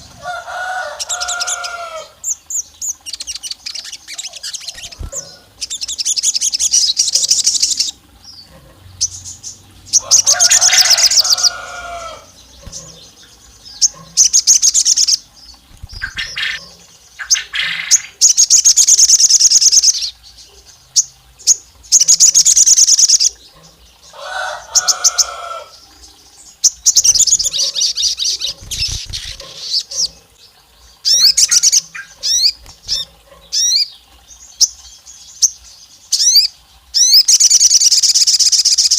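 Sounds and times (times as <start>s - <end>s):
bird chattering trills: 0.0s - 30.4s, 31.0s - 38.9s.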